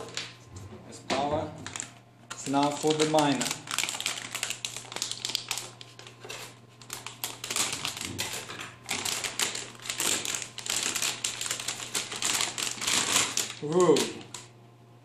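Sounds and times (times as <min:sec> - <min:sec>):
plastic bag crinkling: 0:00.0 - 0:00.3, 0:01.5 - 0:14.5.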